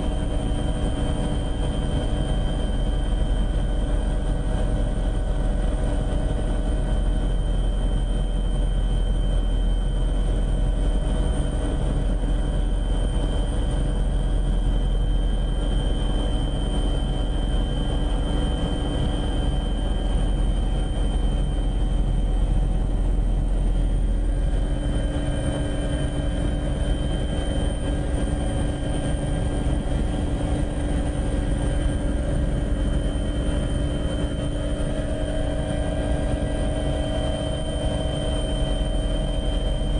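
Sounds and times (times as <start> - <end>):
aircraft engine drone: 0.0 - 39.9
steady whining tones: 0.0 - 39.9.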